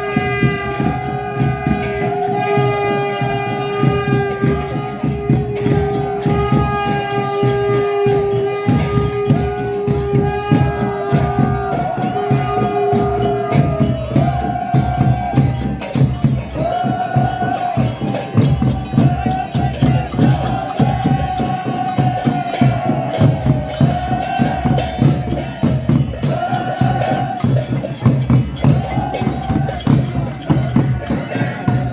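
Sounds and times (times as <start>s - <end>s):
fast hand percussion: 0.0s - 31.9s.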